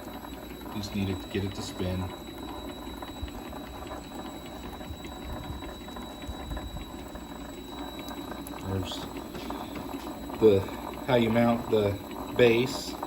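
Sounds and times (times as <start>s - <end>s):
lathe motor whirring: 0.0s - 13.0s
thin high whine: 0.0s - 13.0s.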